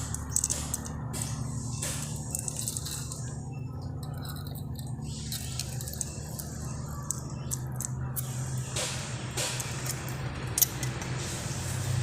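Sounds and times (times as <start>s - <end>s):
small metal parts clinking: 0.0s - 8.7s, 9.6s - 11.2s
steady low hum: 0.0s - 12.0s.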